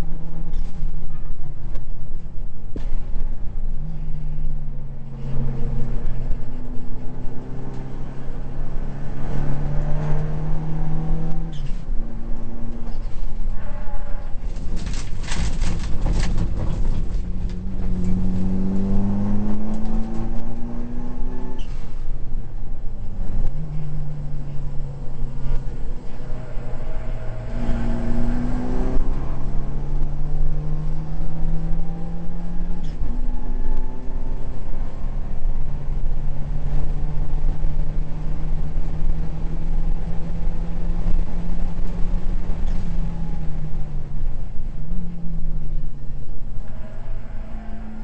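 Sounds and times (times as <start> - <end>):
race car engine under load: 0.0 - 48.0.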